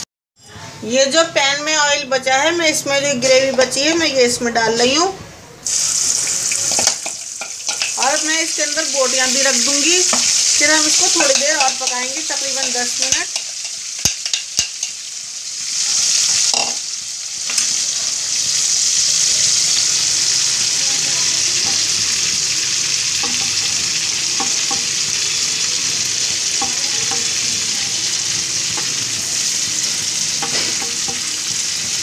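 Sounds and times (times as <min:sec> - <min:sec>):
oil sizzling in a frying pan: 0:05.6 - 0:32.0.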